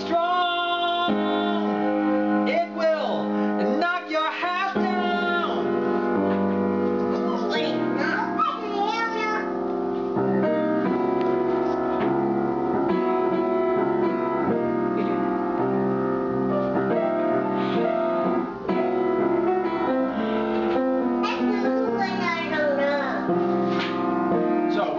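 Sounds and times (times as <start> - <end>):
keyboard playing sustained chords: 0.0 - 8.8, 9.4 - 24.9.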